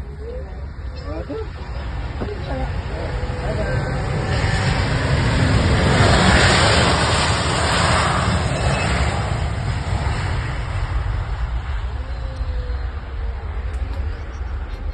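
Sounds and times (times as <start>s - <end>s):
aeroplane roaring overhead: 0.0s - 14.9s
low rumble: 0.0s - 14.9s.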